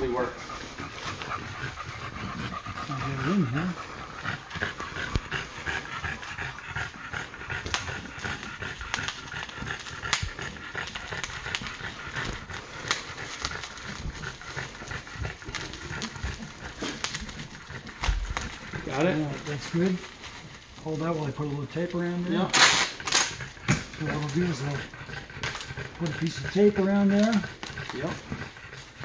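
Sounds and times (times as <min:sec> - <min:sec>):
bubble wrap crinkling: 0:00.0 - 0:29.0
dog panting: 0:00.0 - 0:29.0.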